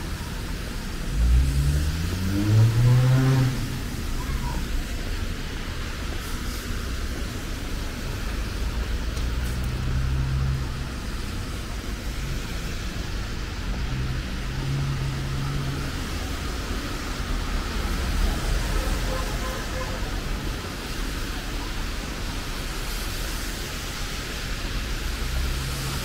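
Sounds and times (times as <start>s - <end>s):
low traffic rumble: 0.0s - 26.0s
tyres hissing on wet road: 0.0s - 26.0s.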